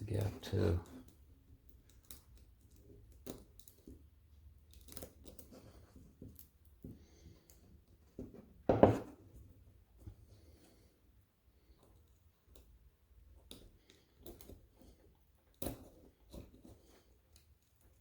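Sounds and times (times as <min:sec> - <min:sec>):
small clicks and scrapes: 0:00.1 - 0:18.0.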